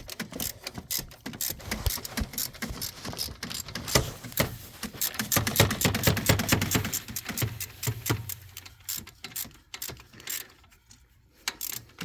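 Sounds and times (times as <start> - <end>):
ratchet clicking: 0.0 - 4.0, 5.0 - 10.5, 11.4 - 12.0.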